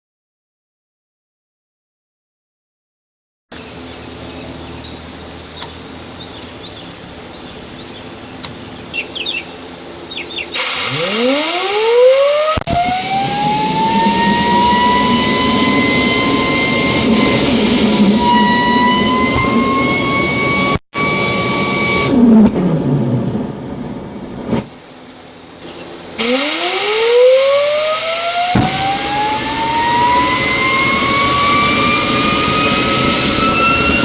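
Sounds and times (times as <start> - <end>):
jet engine starting up: 3.5 - 34.0
turbo whine and air rush: 3.5 - 34.0.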